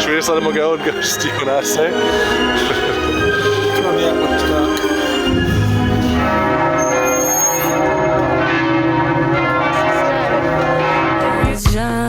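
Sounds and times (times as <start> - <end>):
ringing chime-like bell tones: 0.0 - 11.5.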